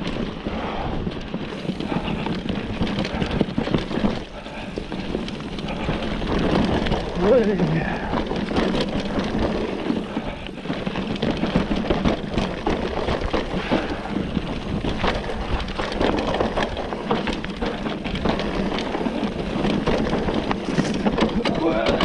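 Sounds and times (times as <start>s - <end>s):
bike knocking and rattling: 0.0s - 22.0s
bike tyres on dirt: 0.0s - 22.0s
wind rumble on microphone: 0.0s - 22.0s.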